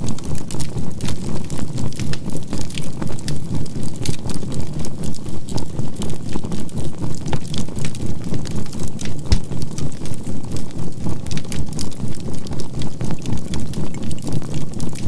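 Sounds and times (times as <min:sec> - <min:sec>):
campfire crackling: 0:00.1 - 0:15.0
fire popping: 0:00.1 - 0:15.0.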